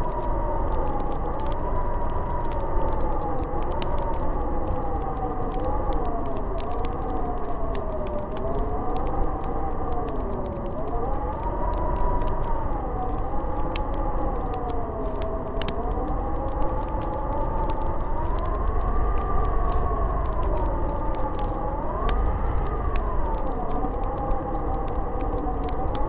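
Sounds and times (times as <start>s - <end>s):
faint crackles: 0.0s - 26.0s
wind howling: 0.0s - 26.0s.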